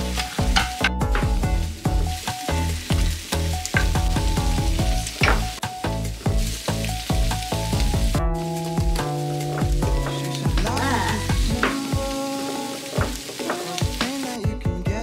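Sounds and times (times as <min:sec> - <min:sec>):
sausages sizzling in a frying pan: 0:00.0 - 0:14.4
background music with a beat: 0:00.0 - 0:15.0.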